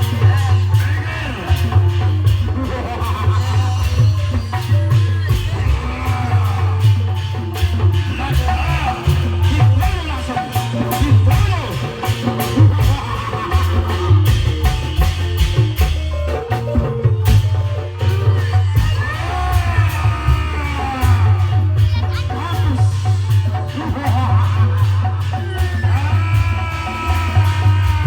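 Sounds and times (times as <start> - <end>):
person singing: 0.0 - 15.5, 17.4 - 28.0
fast drums and hand percussion: 0.0 - 28.0
heavy bass: 0.0 - 28.0.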